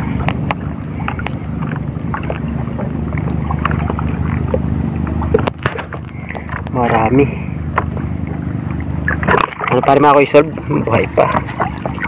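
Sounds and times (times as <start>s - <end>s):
steady low drone: 0.0s - 12.0s
water splashes and drips: 0.1s - 7.0s, 7.8s - 12.0s.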